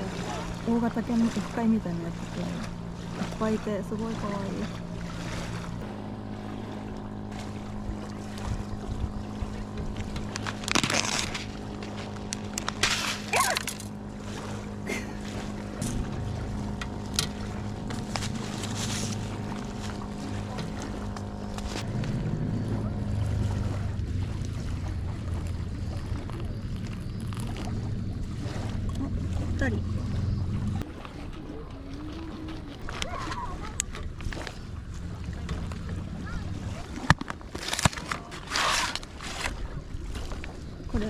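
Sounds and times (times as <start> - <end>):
motor droning: 0.0 - 41.0.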